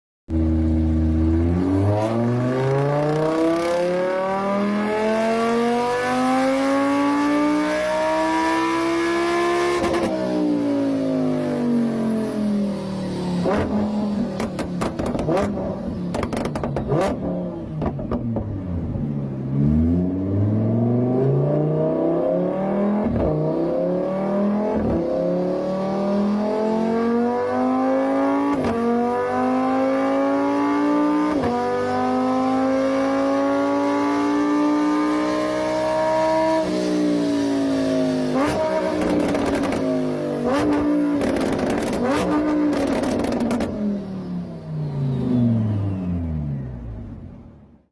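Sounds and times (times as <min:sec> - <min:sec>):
car engine revving: 0:00.4 - 0:47.7.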